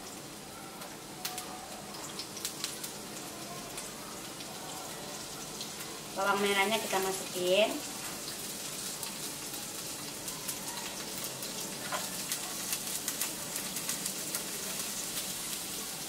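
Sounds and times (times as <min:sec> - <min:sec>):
garlic sizzling in frying pan: 0:00.0 - 0:16.0.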